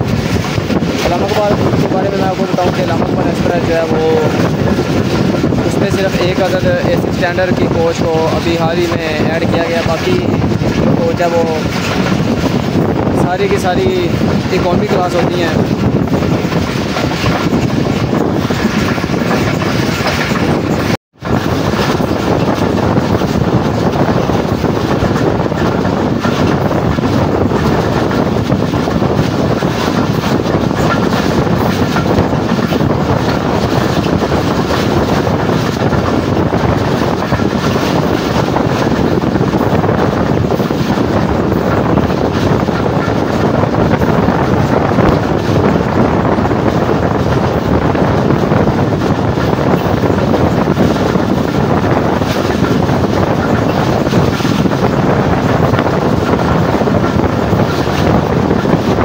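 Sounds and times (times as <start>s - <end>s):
train wheels rumbling on rails: 0.0s - 59.0s
wind rushing over microphone: 0.0s - 59.0s.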